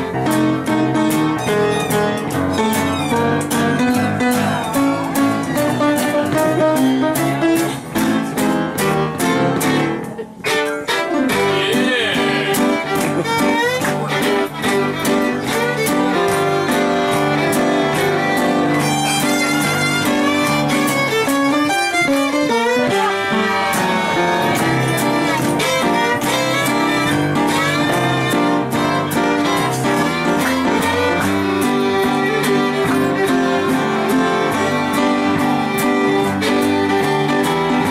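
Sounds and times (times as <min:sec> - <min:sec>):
fiddle playing swing tune: 0:00.0 - 0:37.9
strummed acoustic guitar: 0:00.0 - 0:37.9.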